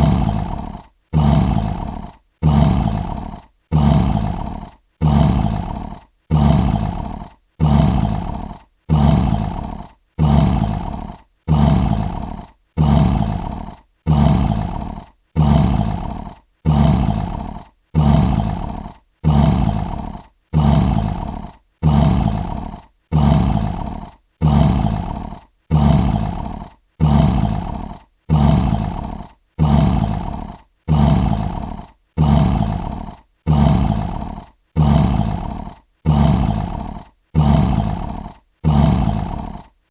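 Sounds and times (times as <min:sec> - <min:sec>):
lion roaring: 0:00.0 - 0:39.8.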